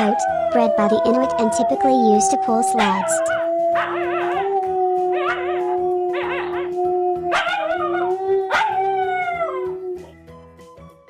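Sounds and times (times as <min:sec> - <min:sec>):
dog howling: 0:00.0 - 0:10.2.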